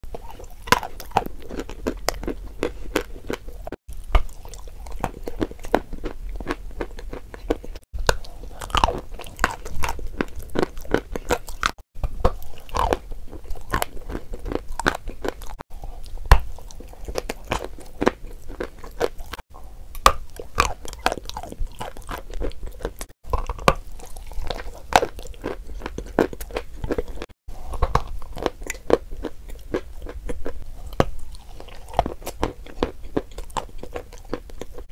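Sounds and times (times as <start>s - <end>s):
chewing crunchy chalk: 0.1s - 19.4s, 20.0s - 34.9s.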